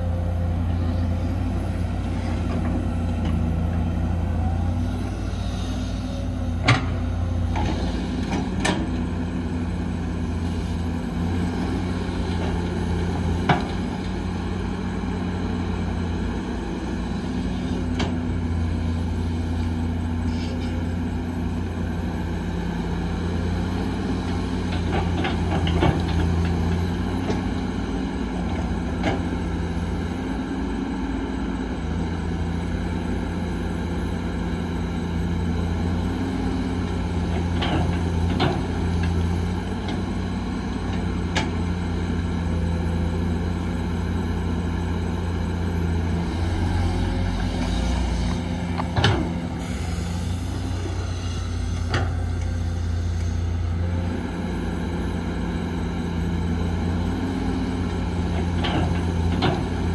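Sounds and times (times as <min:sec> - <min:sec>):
heavy machinery diesel engine: 0:00.0 - 0:59.9.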